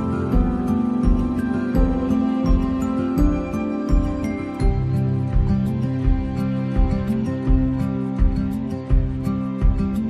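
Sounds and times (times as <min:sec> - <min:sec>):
slow low beat: 0:00.0 - 0:10.0
soft instrumental music: 0:00.0 - 0:10.0.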